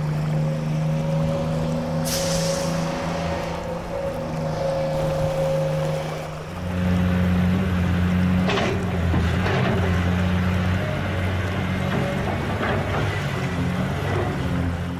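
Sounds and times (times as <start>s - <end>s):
low engine drone: 0.0s - 14.9s.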